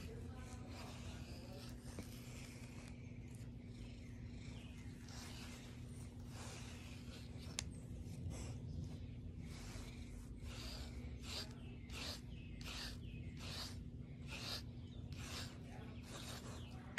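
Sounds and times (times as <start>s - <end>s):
scratchy grooming strokes: 0.0s - 16.9s
steady low hum: 0.0s - 16.9s.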